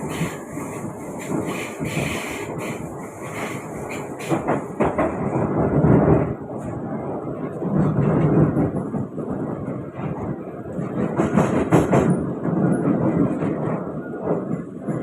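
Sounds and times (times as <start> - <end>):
train wheel-on-rail rumble: 0.0 - 15.0.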